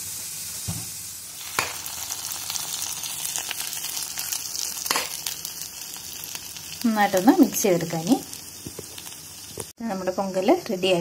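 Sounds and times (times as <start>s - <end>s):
hot ghee sizzling: 0.0s - 10.4s.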